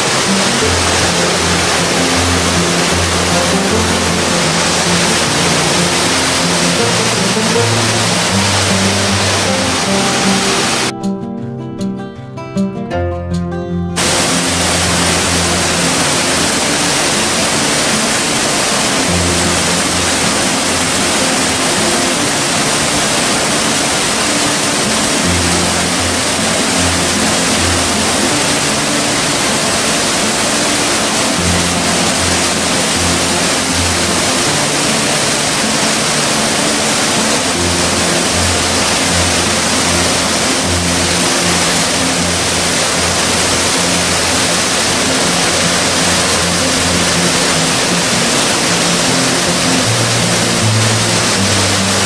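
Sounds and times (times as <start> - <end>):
waterfall rushing: 0.0 - 10.9, 14.0 - 52.0
music of slow low notes: 0.0 - 52.0.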